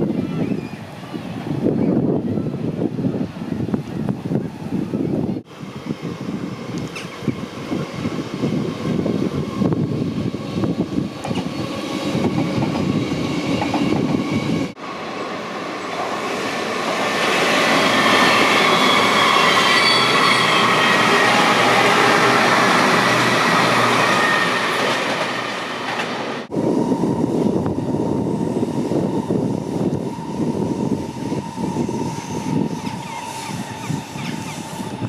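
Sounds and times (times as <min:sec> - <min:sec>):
train passing on rails: 0:00.0 - 0:35.0.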